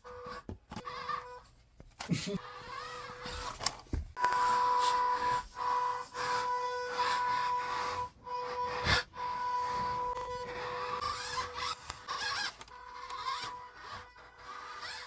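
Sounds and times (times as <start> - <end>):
electric motor whining: 2.4 - 15.0.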